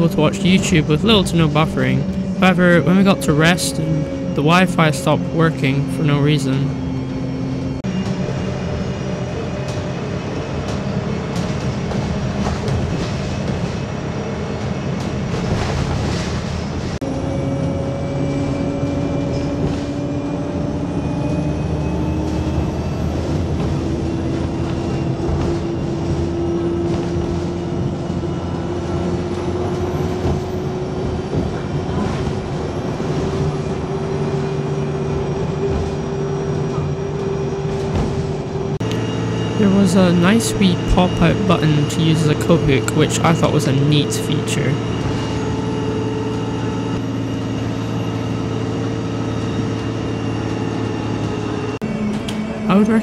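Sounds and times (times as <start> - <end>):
bus engine and tyre rumble: 0.0 - 53.0
drivetrain whine: 0.0 - 53.0.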